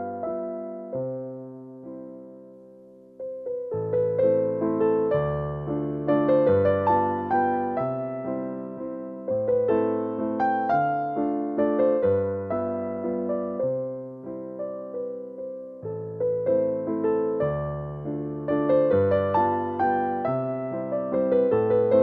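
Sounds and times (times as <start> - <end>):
electric piano tune: 0.0 - 22.0.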